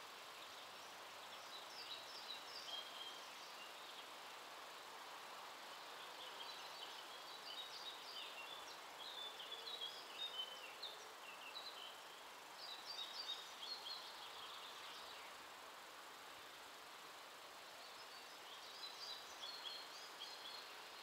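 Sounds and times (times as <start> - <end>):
faint outdoor hiss: 0.0 - 21.0
songbird chirping: 0.0 - 21.0.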